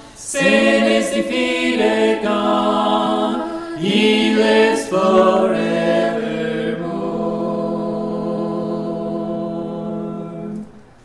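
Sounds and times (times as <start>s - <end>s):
a cappella choir holding a chord: 0.0s - 11.0s.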